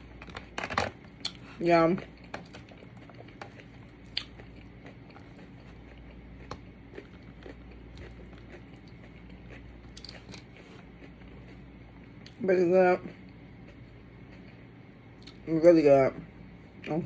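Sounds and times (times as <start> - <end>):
person chewing food: 0.0 - 12.4, 13.1 - 15.4.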